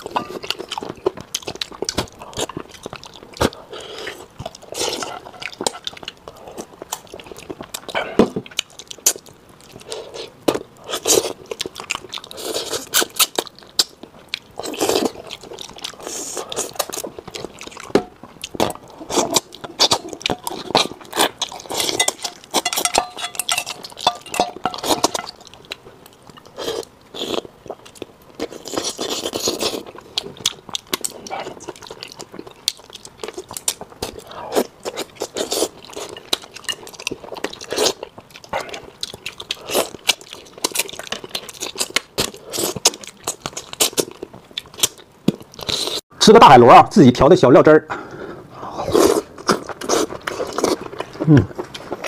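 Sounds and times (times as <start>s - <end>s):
chewing and crunching fish: 0.0s - 46.0s, 49.0s - 52.0s.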